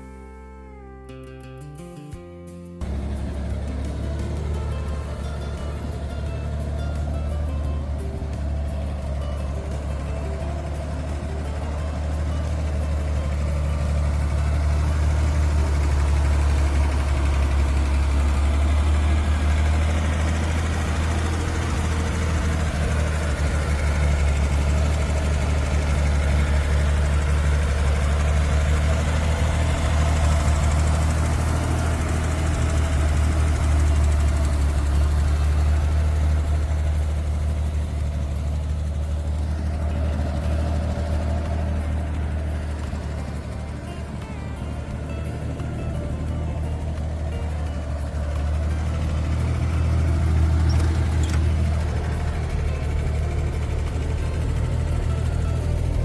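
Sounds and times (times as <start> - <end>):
car engine idling: 2.8 - 56.0.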